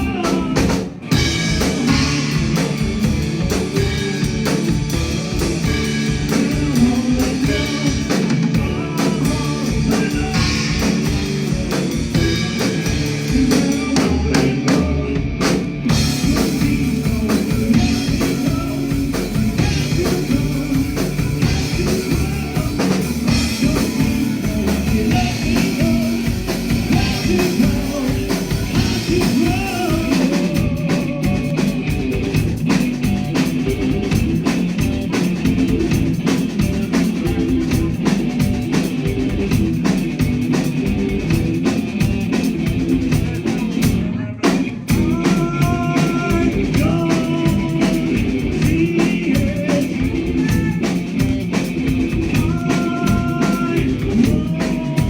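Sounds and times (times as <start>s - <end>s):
person singing: 0.0s - 32.6s, 42.4s - 55.0s
bass guitar: 0.0s - 55.0s
drum kit: 0.0s - 55.0s
guitar: 0.0s - 55.0s.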